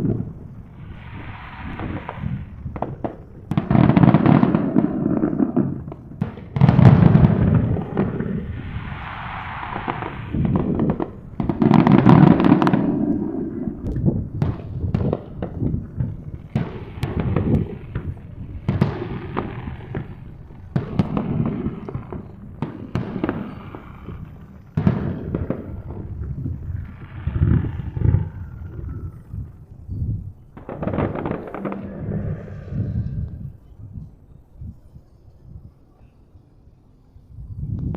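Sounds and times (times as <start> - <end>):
fireworks booming and crackling: 0.0 - 34.2.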